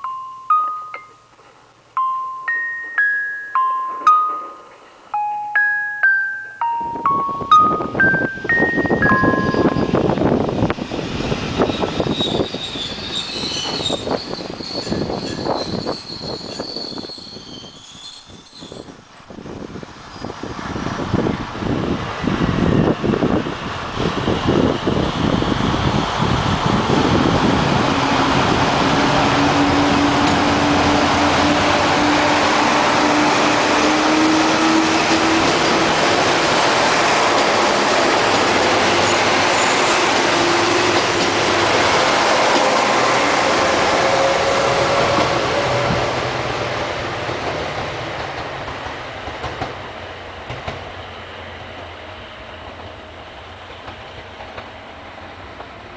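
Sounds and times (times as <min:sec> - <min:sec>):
rail noise rumble: 0:00.0 - 0:55.9
diesel train engines accelerating: 0:06.6 - 0:55.9.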